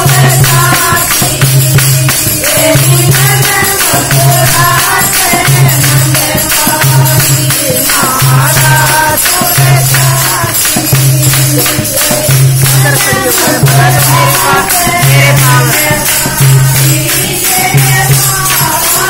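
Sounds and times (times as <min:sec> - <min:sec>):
handclaps: 0:00.0 - 0:19.0
jingling percussion: 0:00.0 - 0:19.0
women singing into a microphone: 0:00.0 - 0:19.0.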